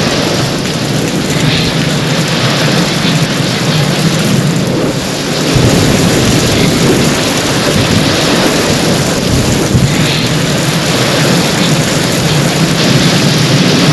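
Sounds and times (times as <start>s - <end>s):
heavy rain falling: 0.0s - 13.9s
thunder rumble: 0.0s - 13.9s.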